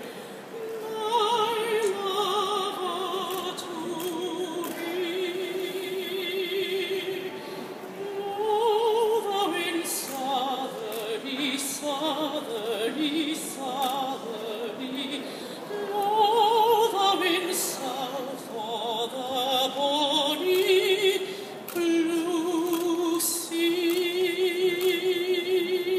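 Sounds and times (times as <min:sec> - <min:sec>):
woman singing operatically: 0:00.5 - 0:07.3, 0:08.0 - 0:25.9.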